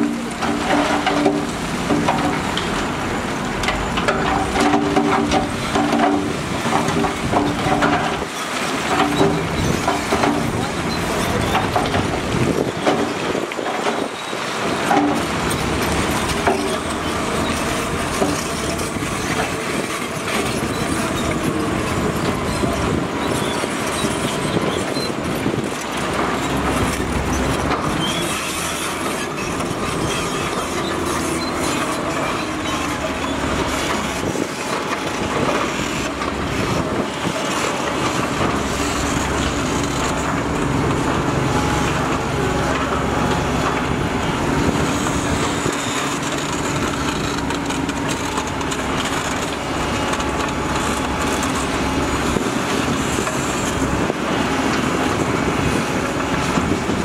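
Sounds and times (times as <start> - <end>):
heavy earthmoving machinery: 0.0 - 57.0.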